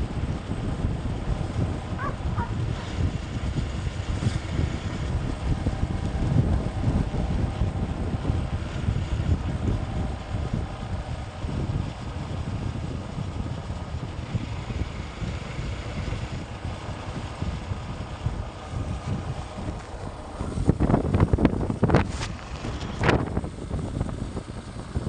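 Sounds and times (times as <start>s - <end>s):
motorcycle engine and road drone: 0.0s - 25.0s
wind buffeting microphone: 0.0s - 25.0s.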